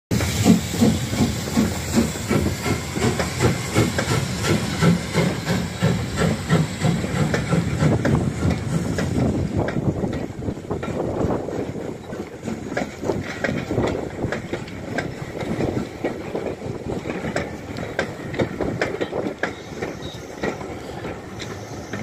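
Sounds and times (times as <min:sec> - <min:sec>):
hiss of steam: 0:00.1 - 0:22.0
steam locomotive chuffing: 0:00.1 - 0:22.0.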